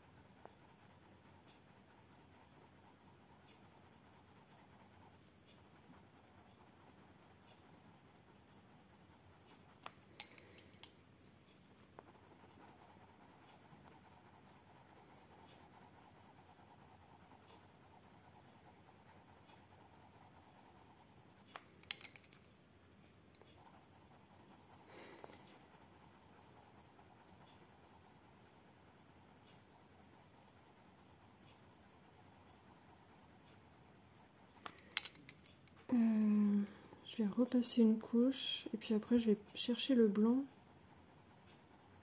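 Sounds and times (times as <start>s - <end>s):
pencil scratching on paper: 0.0s - 34.8s, 37.0s - 42.0s.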